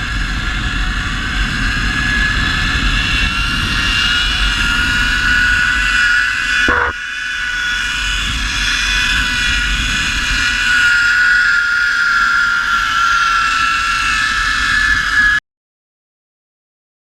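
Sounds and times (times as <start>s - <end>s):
wind rumble on microphone: 0.0s - 6.9s, 8.0s - 15.4s
zipline pulleys whining on cable: 0.0s - 15.4s.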